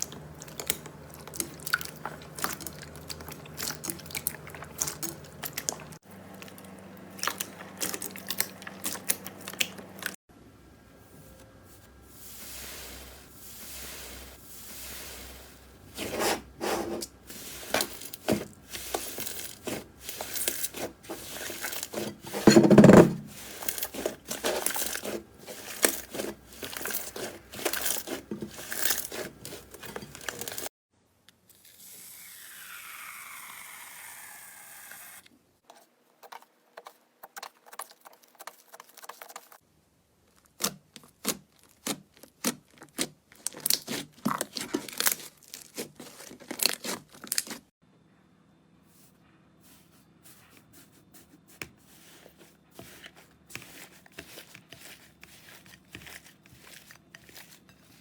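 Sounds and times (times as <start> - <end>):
slime squelch: 0.0 - 10.2, 11.0 - 30.7, 40.2 - 47.7, 48.8 - 58.0.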